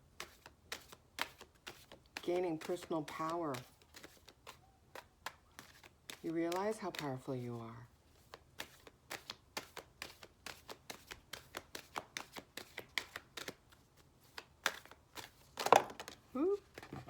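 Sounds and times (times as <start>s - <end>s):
cards being shuffled: 0.2s - 16.9s.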